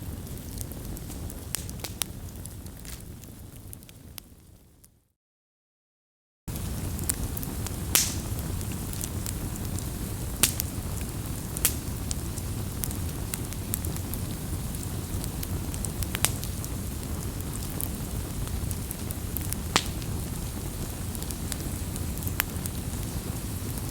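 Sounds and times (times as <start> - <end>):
campfire crackling: 0.0 - 4.6, 6.5 - 23.9
sharp pops of burning wood: 0.1 - 3.1, 6.5 - 23.9.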